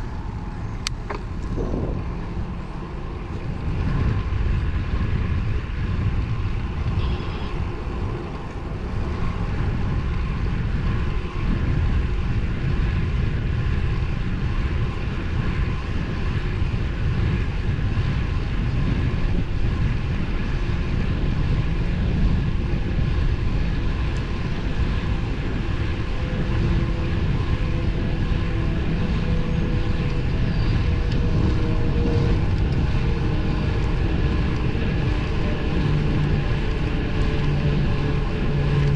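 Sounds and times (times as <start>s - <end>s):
bicycle tyre road noise: 0.0s - 38.9s
wind rumble on microphone: 0.0s - 38.9s.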